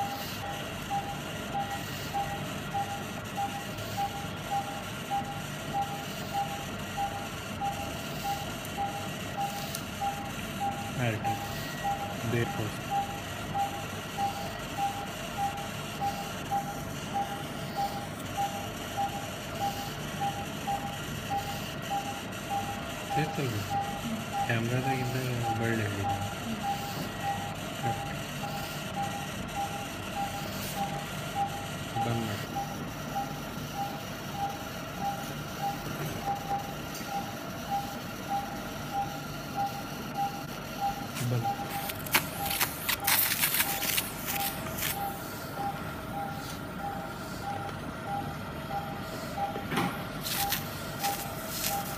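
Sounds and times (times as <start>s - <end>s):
patient monitor beeps: 0.0s - 51.9s
steady background noise: 0.0s - 51.9s.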